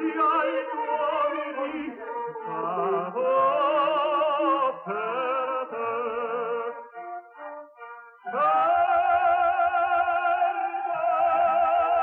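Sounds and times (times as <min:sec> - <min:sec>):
operatic singing with vibrato: 0:00.0 - 0:12.0.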